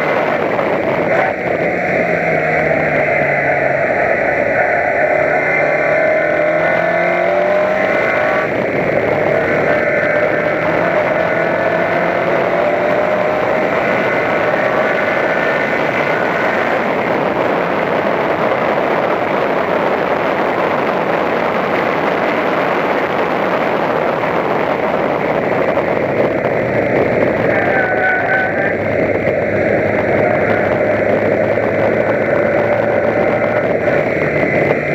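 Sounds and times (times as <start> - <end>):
race car engine: 0.0 - 34.9
wind and road noise: 0.0 - 34.9.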